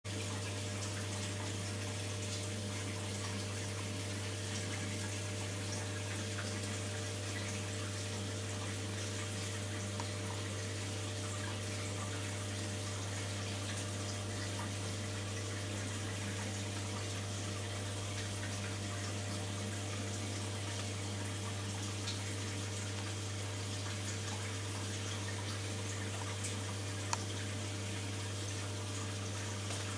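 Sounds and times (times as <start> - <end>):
aquarium pump humming: 0.1 - 29.9.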